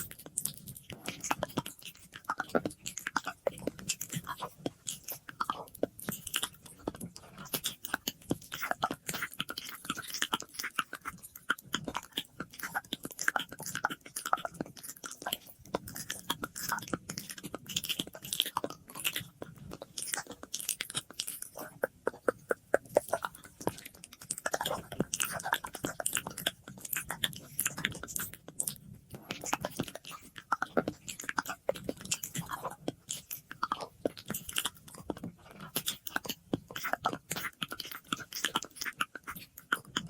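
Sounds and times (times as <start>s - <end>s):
mouth clicks and lip smacks: 0.0s - 40.0s.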